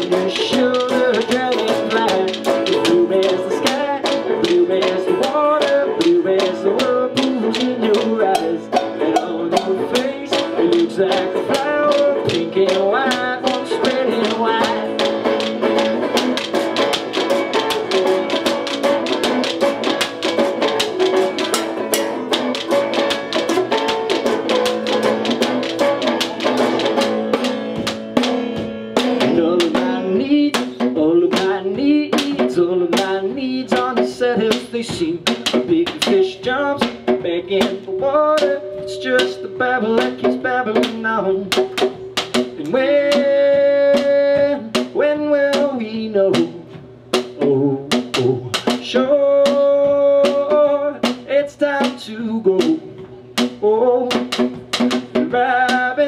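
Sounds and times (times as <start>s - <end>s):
banjo: 0.0s - 46.6s
resonator guitar: 0.0s - 56.0s
wooden coop hand drum strikes: 0.0s - 56.0s.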